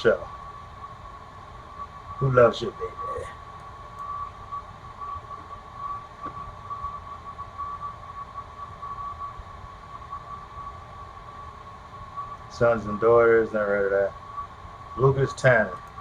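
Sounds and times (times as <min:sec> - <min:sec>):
high-pitched whine: 0:00.0 - 0:16.0
low background hiss and rumble: 0:00.0 - 0:16.0.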